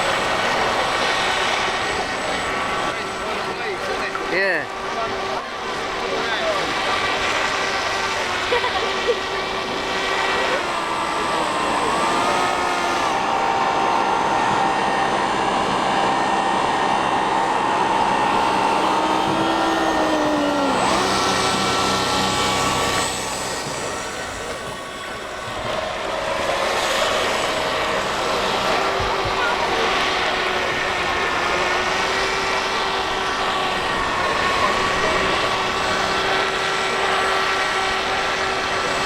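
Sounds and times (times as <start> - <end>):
model boat electric motors whining: 0.0 - 39.0.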